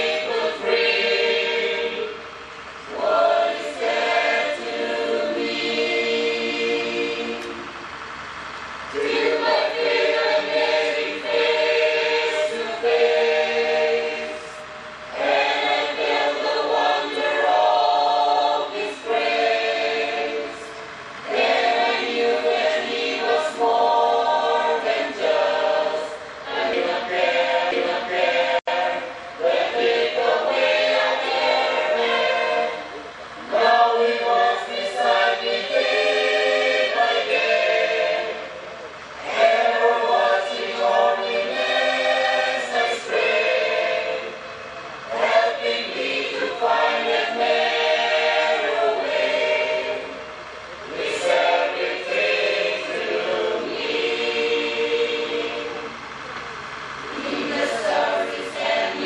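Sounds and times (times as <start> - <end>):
women's choir singing: 0.0 - 59.0.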